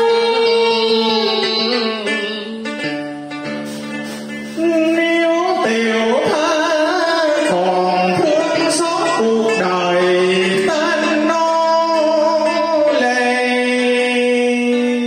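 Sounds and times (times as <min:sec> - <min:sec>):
person singing wavering: 0:00.0 - 0:03.1, 0:04.2 - 0:15.0
plucked string instruments: 0:00.0 - 0:15.0.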